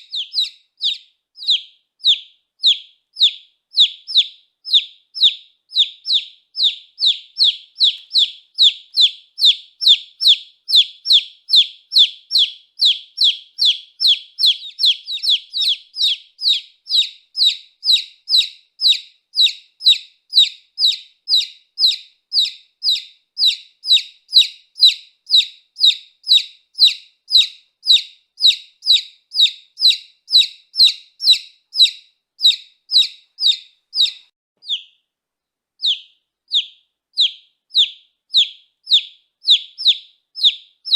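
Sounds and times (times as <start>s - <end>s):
baby chick peeping: 0.0s - 35.1s, 35.8s - 40.9s.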